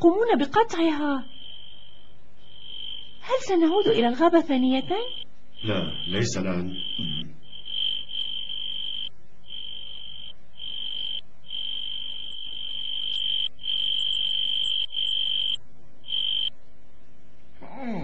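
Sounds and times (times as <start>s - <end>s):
insect trilling: 0.0s - 16.6s.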